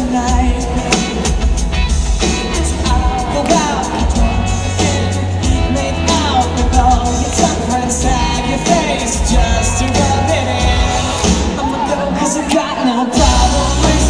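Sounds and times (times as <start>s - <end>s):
drums: 0.0s - 14.0s
man singing: 0.0s - 14.0s.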